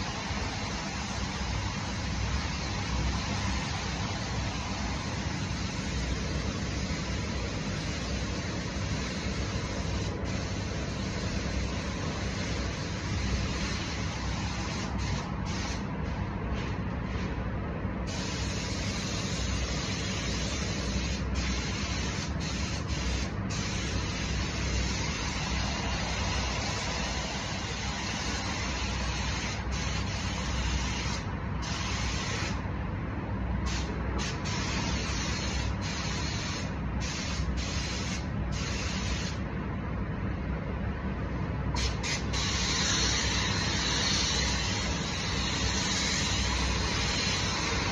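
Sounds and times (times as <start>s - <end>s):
paint spray gun hissing: 0.0s - 15.9s, 18.1s - 32.6s, 33.7s - 39.4s, 41.8s - 47.9s.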